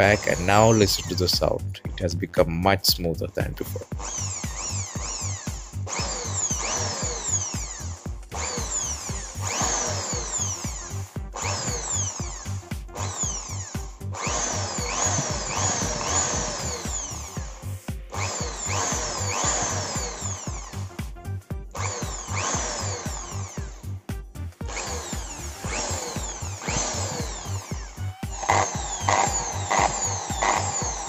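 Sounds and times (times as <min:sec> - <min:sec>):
drill motor running: 0:00.0 - 0:02.1, 0:03.3 - 0:31.0
background music with beat: 0:00.0 - 0:31.0.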